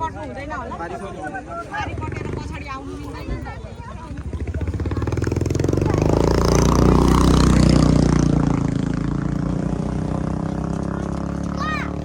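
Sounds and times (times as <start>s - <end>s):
motor vehicle passing: 1.7s - 12.0s.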